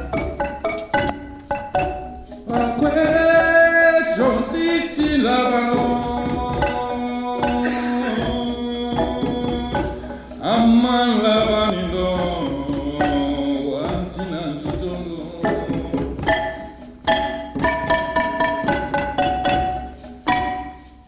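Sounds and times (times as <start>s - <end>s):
rhythmic drum strokes: 0.0s - 21.0s.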